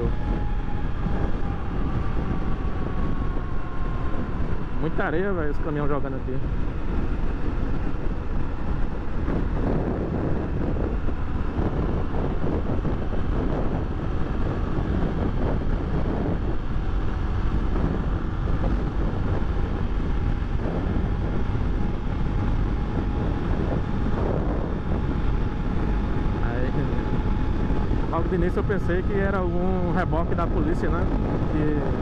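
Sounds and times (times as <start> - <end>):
motorcycle engine running: 0.0 - 32.0
wind rush over microphone: 0.0 - 32.0.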